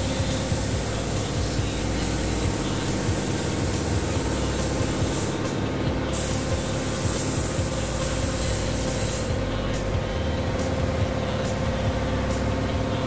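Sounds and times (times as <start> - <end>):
spray gun hissing: 0.0 - 10.7
workshop machinery drone: 0.0 - 13.0.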